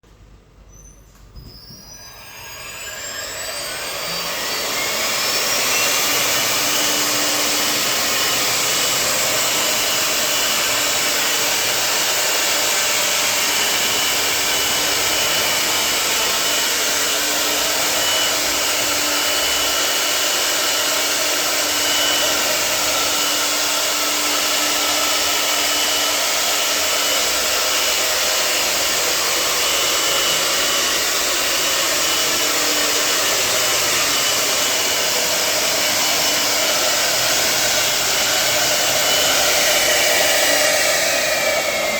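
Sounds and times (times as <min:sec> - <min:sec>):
router spindle whine: 0:00.7 - 0:41.9.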